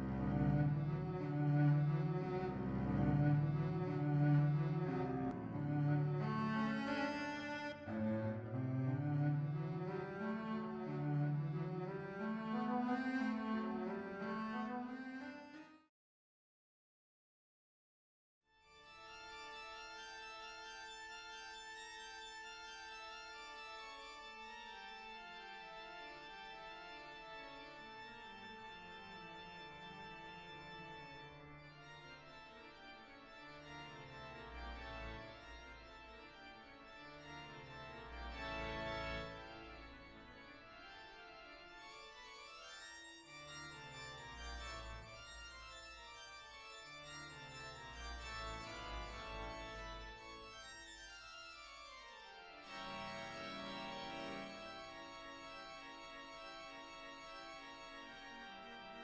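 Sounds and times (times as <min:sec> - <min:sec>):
organ-like sustained chords: 0:00.0 - 0:15.1, 0:19.3 - 0:42.6, 0:43.3 - 0:59.0.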